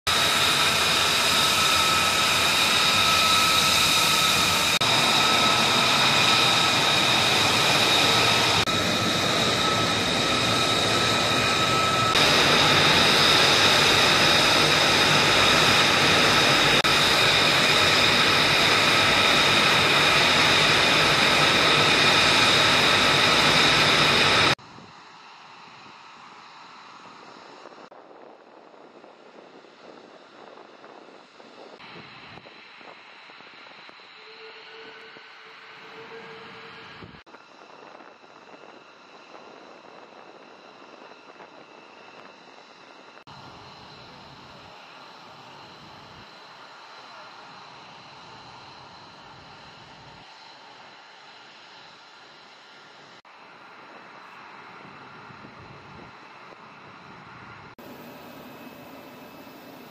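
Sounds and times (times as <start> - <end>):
jet engine running: 0.1 - 59.9
wind-like background: 0.1 - 59.9.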